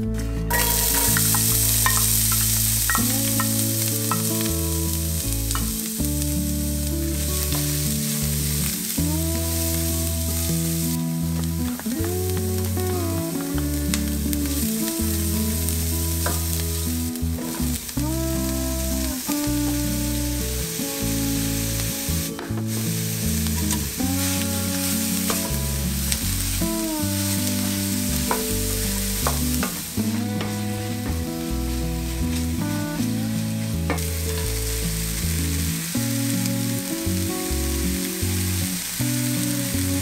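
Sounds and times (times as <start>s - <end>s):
soft instrumental music: 0.0s - 40.0s
vegetables sizzling in a skillet: 0.5s - 40.0s.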